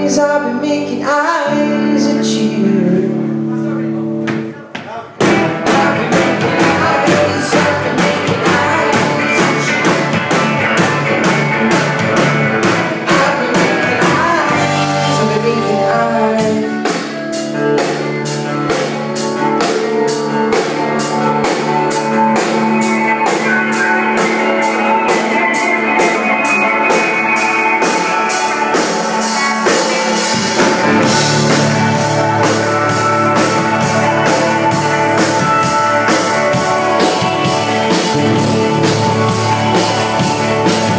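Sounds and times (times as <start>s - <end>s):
person singing: 0.0s - 4.0s, 4.9s - 40.9s
electric guitars: 0.0s - 40.9s
drum kit steady beat: 4.8s - 40.9s.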